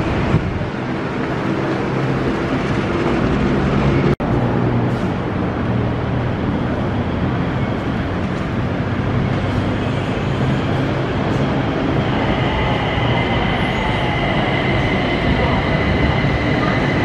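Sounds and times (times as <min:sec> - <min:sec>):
electric train rumble: 0:00.0 - 0:17.0
high steady train whine: 0:00.0 - 0:17.0.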